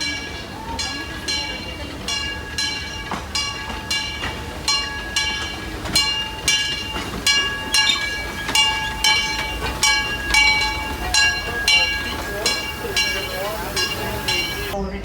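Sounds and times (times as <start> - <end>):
locomotive bell ringing: 0.0 - 14.8
low rumble of train: 0.0 - 15.0.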